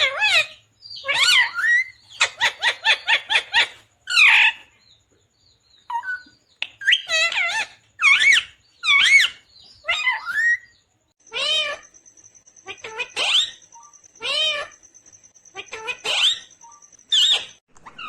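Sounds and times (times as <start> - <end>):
parrot calling: 0.0 - 4.7, 5.9 - 11.9, 12.6 - 14.8, 15.5 - 18.0.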